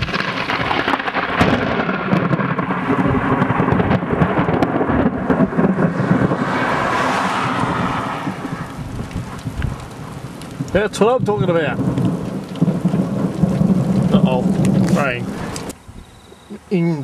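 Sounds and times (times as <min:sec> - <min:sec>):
thunder rumbling: 0:00.0 - 0:16.5.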